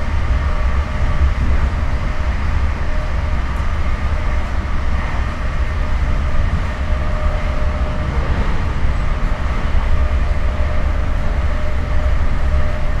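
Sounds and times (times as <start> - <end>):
train car deep rumble: 0.0 - 13.0.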